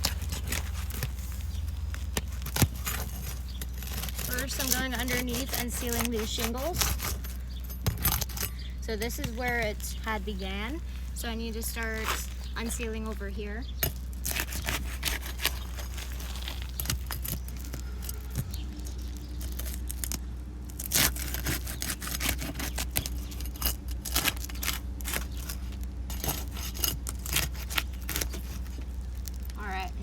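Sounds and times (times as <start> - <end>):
tool scraping under roof shingles: 0.0 - 29.6
steady low hum: 0.0 - 30.0.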